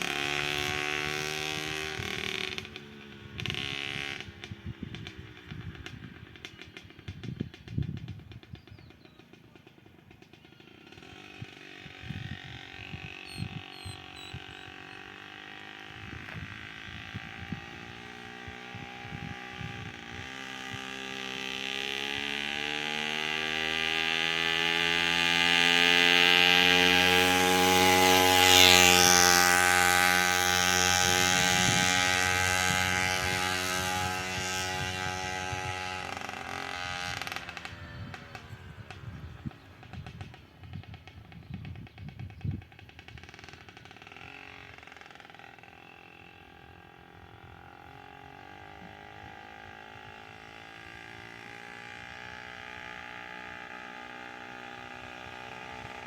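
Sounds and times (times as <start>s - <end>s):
two-stroke moped engine: 0.0s - 56.0s.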